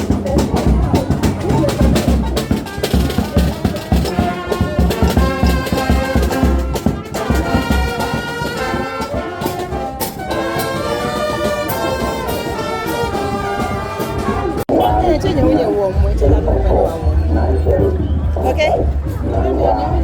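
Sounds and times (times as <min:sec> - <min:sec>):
brass band playing: 0:00.0 - 0:20.0
low beat: 0:00.0 - 0:20.0.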